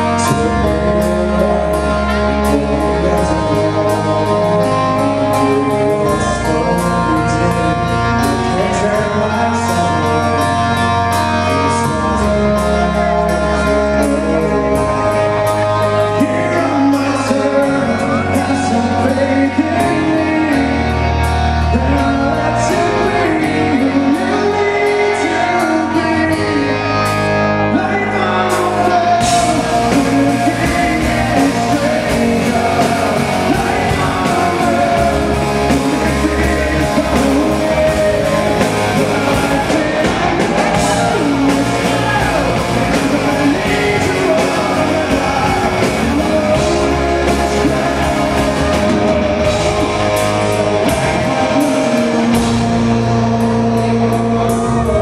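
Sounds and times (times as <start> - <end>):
drums: 0.0 - 55.0
electric guitar: 0.0 - 55.0
man singing: 0.0 - 55.0.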